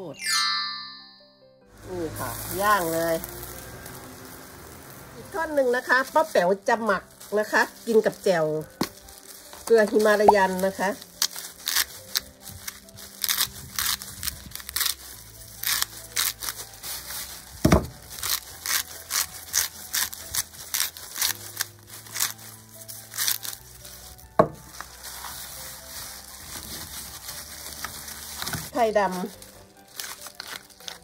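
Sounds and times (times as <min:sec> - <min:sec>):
soft background music: 0:00.0 - 0:31.0.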